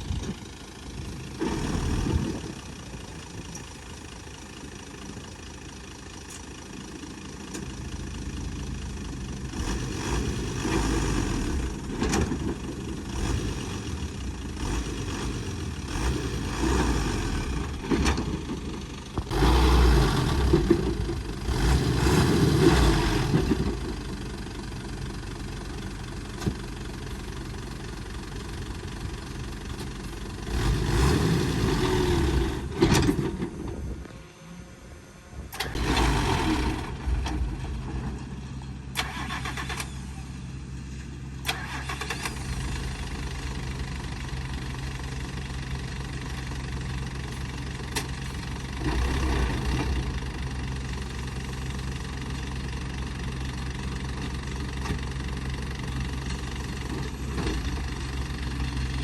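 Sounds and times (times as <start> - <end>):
heavy diesel engine idling and revving: 0.0 - 59.0.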